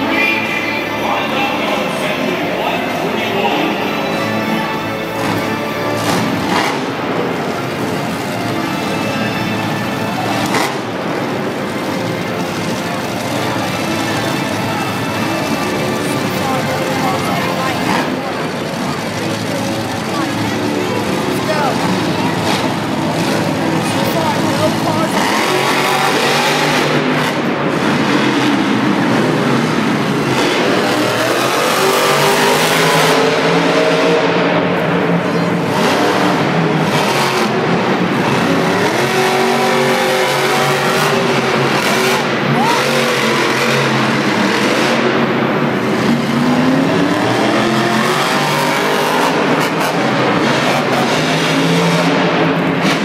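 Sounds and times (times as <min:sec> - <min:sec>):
arena crowd noise: 0:00.0 - 0:53.0
monster truck engines revving: 0:00.0 - 0:53.0.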